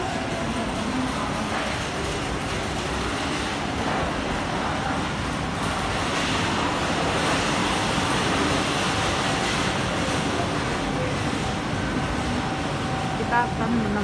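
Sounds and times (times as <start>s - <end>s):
busy walkway background rumble: 0.0s - 14.0s.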